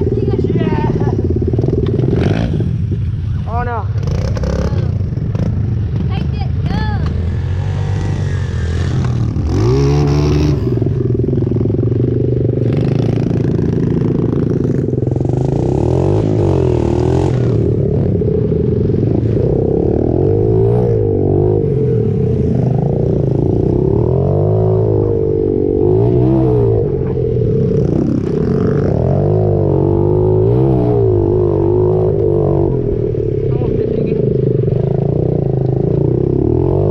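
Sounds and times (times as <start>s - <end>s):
pit bike engine revving: 0.0s - 36.9s.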